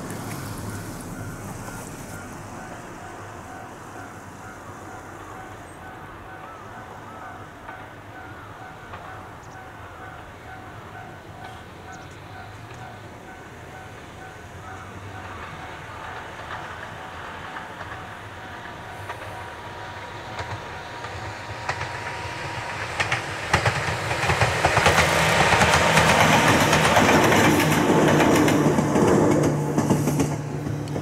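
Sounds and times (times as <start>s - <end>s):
electric train passing: 0.0s - 31.0s
train wheels clacking over rail joints: 0.0s - 31.0s.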